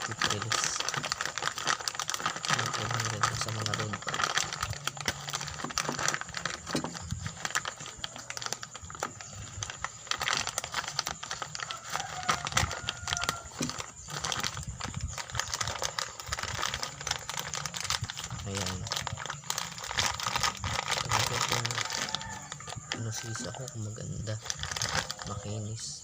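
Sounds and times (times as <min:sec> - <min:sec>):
plastic crinkling: 0:00.0 - 0:25.8.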